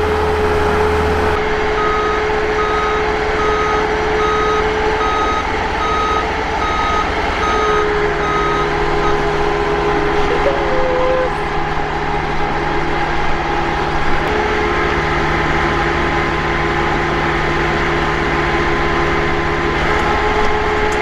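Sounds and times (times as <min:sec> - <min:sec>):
hydraulic lift engine drone and whine: 0:00.0 - 0:21.0.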